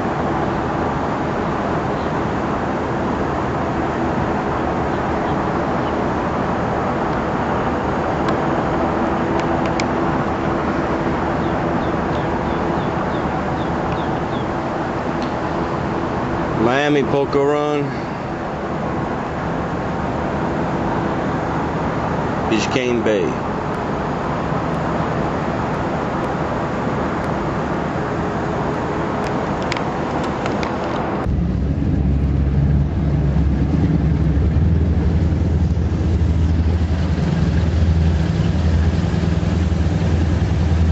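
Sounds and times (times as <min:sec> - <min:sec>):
faint steady drone: 0:00.0 - 0:40.9
powerboat engine and water rush: 0:00.0 - 0:40.9.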